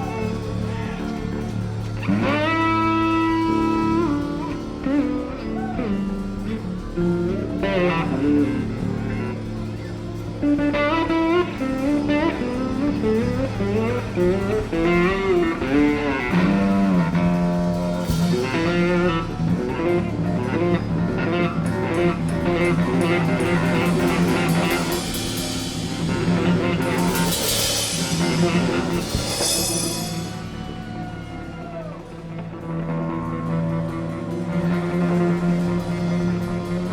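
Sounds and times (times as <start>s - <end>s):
bass and drums: 0.0s - 36.9s
cymbal washes: 0.0s - 36.9s
electric guitar melody: 0.0s - 36.9s.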